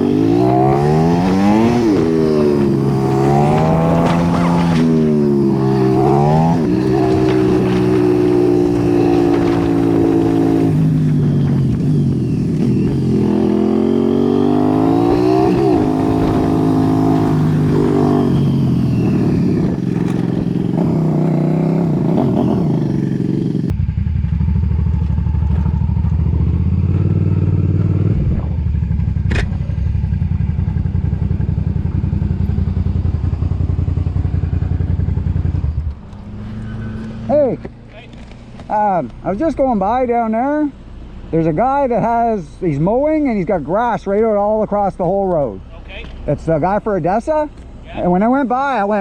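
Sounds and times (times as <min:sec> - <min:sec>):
motorcycle engine accelerating: 0:00.0 - 0:41.4
motorcycle engine at low revs: 0:00.0 - 0:41.5.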